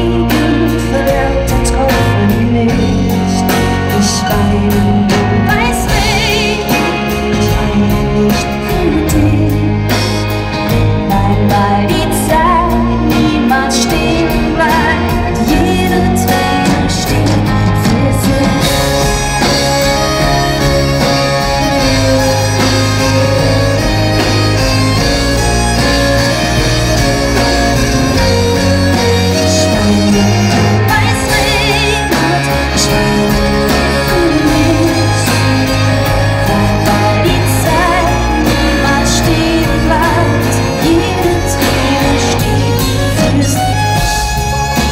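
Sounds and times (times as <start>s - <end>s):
woman singing into a microphone: 0.0s - 23.8s, 26.0s - 44.3s
drums: 0.0s - 44.9s
keyboards: 0.0s - 44.9s.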